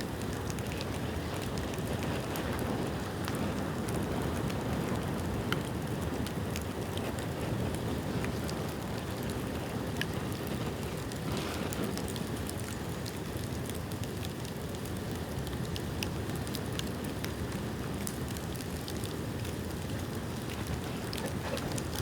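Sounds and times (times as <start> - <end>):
fire roaring: 0.0 - 13.5, 14.5 - 22.0
fire crackling and popping: 0.0 - 22.0.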